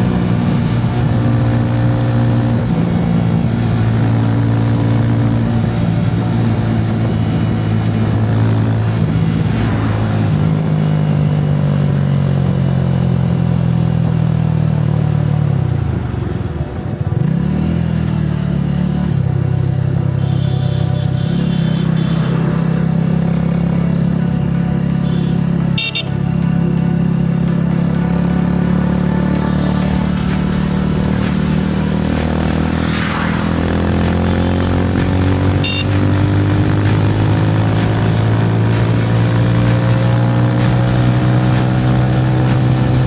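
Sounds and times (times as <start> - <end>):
motorcycle engine running: 0.0 - 22.4, 27.0 - 43.0.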